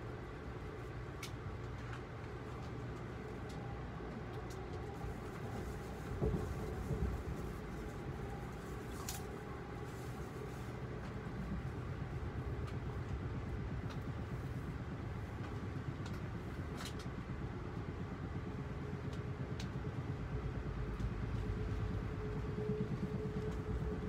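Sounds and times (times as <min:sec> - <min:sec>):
faint hum: 0:00.0 - 0:24.0
train wheels rumbling on track: 0:00.0 - 0:24.0.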